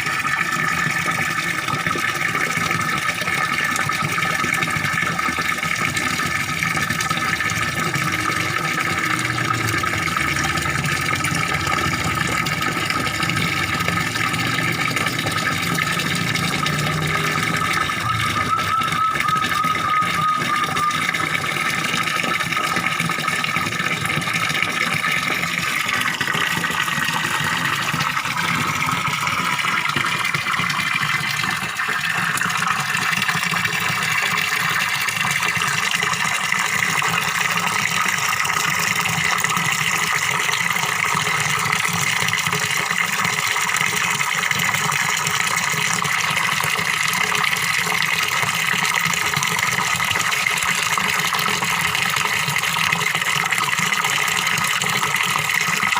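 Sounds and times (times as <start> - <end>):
pond waterfall splashing: 0.0 - 55.9.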